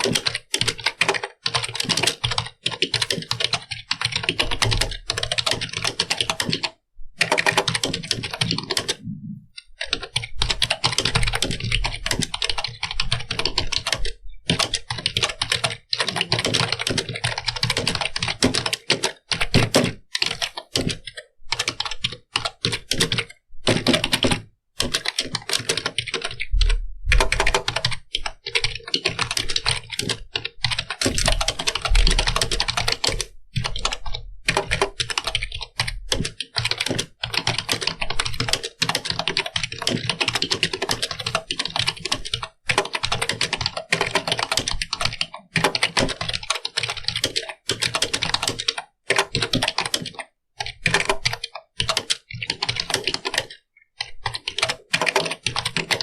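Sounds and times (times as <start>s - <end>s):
fast keyboard typing: 0.0s - 56.0s.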